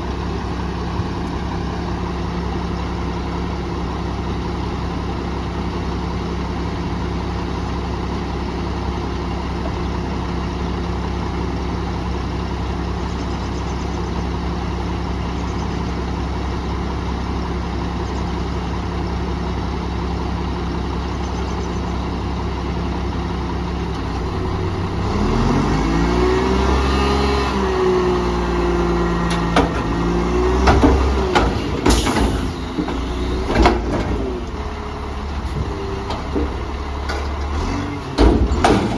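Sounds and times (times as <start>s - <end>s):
diesel truck engine idling and revving: 0.0s - 38.9s.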